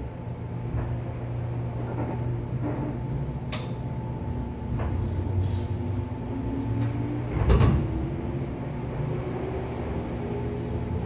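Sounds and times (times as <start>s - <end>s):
train motor and gear hum: 0.0s - 11.0s.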